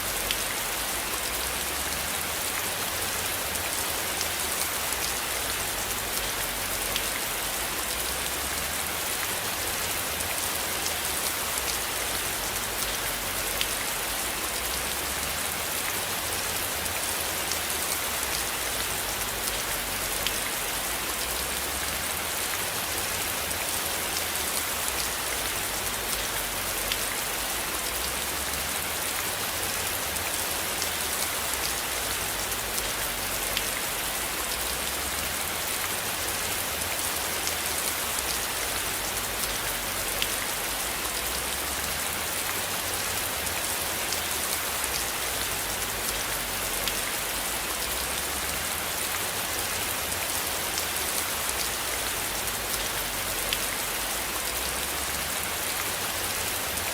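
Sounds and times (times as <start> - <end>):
rain drops ticking on surface: 0.0 - 56.9.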